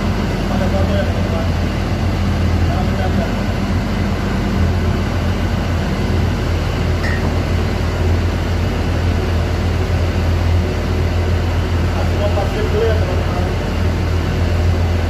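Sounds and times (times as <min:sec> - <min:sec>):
machinery droning: 0:00.0 - 0:15.0.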